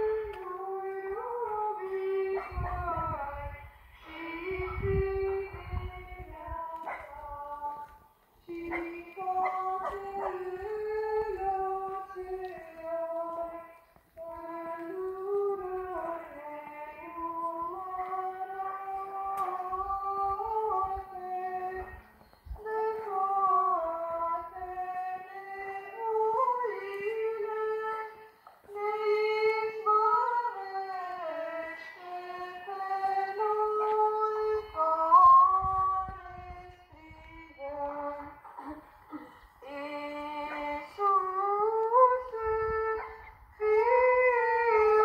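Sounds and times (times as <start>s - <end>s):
woman singing unaccompanied: 0.0s - 45.0s.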